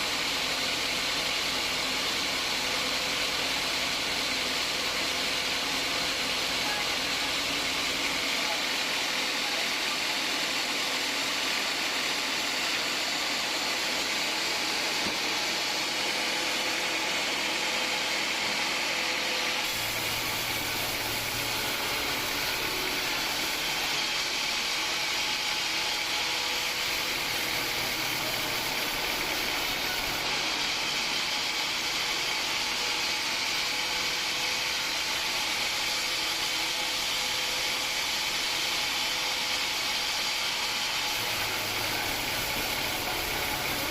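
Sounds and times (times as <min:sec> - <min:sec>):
bandsaw cutting log: 0:00.0 - 0:43.9.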